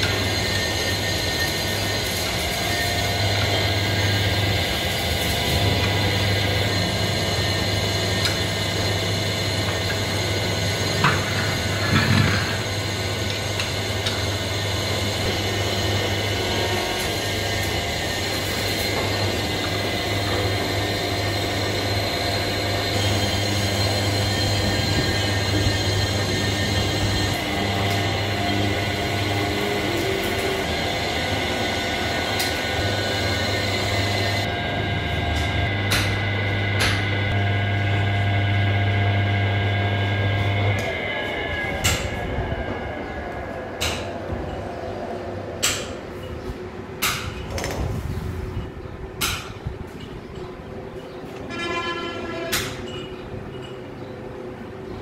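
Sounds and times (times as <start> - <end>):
metal lathe running: 0.0 - 45.5
high whine: 0.0 - 55.0.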